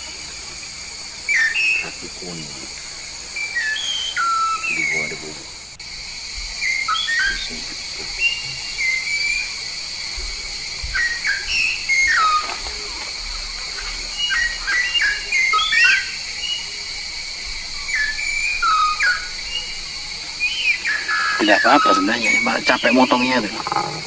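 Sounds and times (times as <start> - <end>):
starling whistling calls: 0.0 - 24.0
steady high hiss: 0.0 - 24.0.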